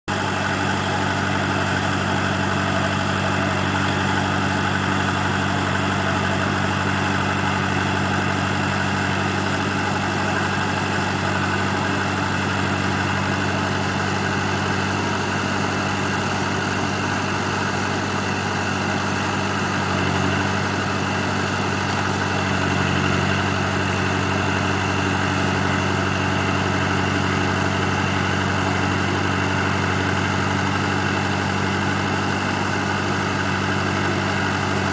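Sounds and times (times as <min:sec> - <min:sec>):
diesel tractor engine running: 0:00.1 - 0:34.9.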